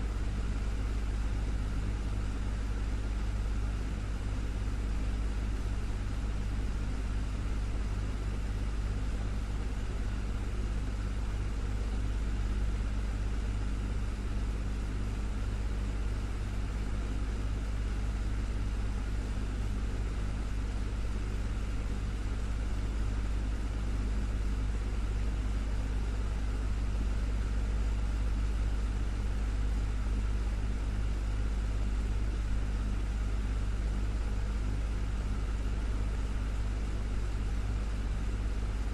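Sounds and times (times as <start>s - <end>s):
desktop fan running: 0.0s - 38.9s.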